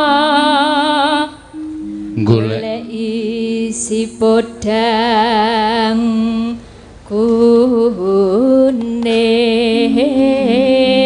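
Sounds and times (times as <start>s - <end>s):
woman singing with vibrato: 0.0s - 11.0s.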